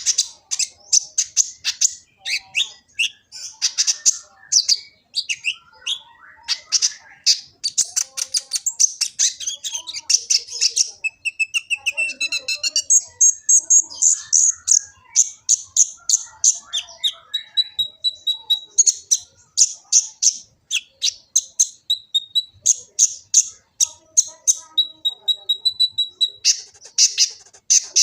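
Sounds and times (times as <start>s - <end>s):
bird singing sharp chirps: 0.0s - 28.0s.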